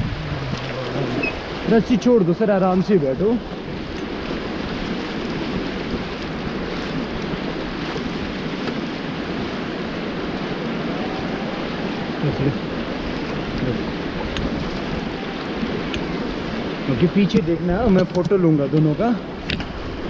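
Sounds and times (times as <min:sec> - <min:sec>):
river water rushing: 0:00.0 - 0:20.0
wind buffeting microphone: 0:00.0 - 0:20.0.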